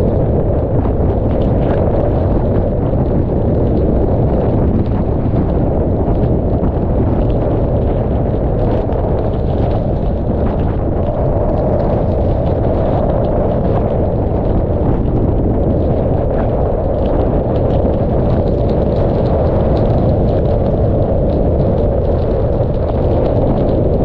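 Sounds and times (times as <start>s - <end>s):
raindrops striking camera: 0.0s - 24.0s
wind buffeting microphone: 0.0s - 24.0s.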